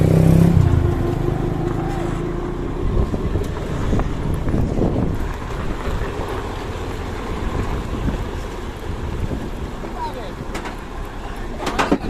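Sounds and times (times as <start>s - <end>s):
truck diesel engine running: 0.0s - 11.6s.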